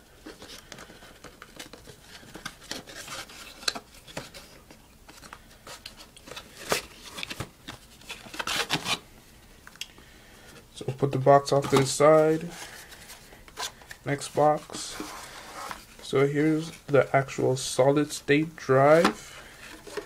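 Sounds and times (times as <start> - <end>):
cardboard rustling and scraping: 0.2 - 9.0, 10.9 - 17.0, 18.8 - 20.0.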